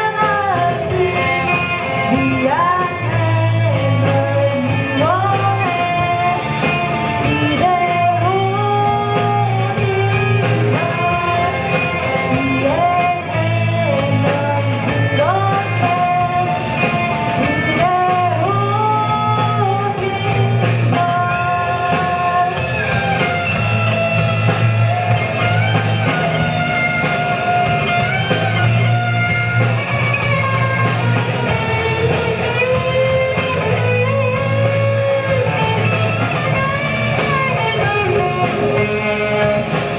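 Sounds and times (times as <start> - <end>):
person singing: 0.0 - 24.1, 24.8 - 39.9
live rock band playing: 0.0 - 39.9.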